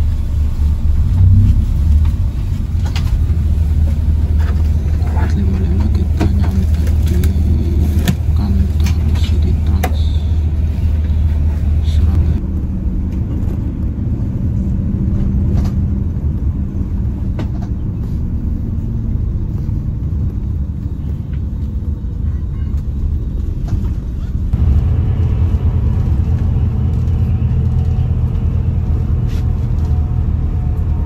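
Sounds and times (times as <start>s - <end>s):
bus engine and tyre rumble: 0.0s - 31.0s.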